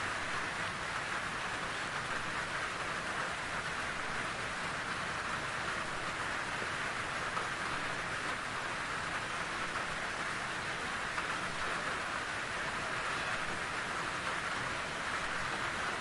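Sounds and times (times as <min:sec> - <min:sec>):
rain on leaves: 0:00.0 - 0:16.0.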